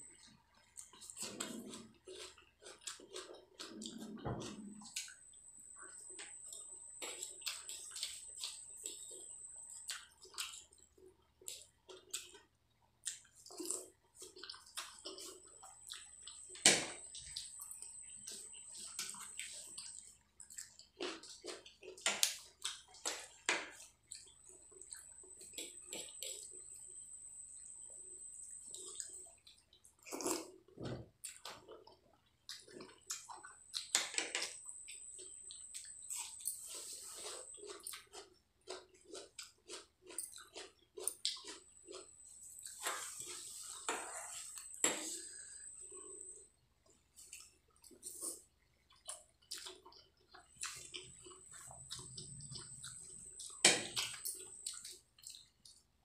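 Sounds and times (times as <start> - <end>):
chewing and mouth smacks: 0.1 - 26.7, 28.7 - 55.9.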